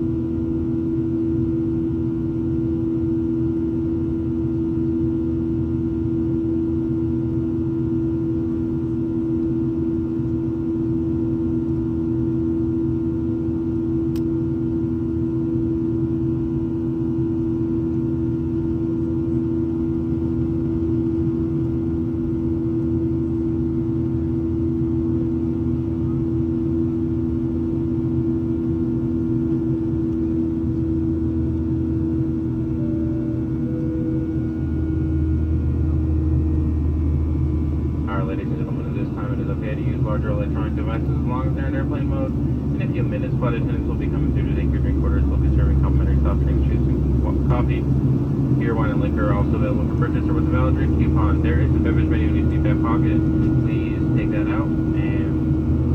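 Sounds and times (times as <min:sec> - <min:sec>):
constant low hum: 0:00.0 - 0:55.9
jet engine drone in cabin: 0:00.0 - 0:55.9.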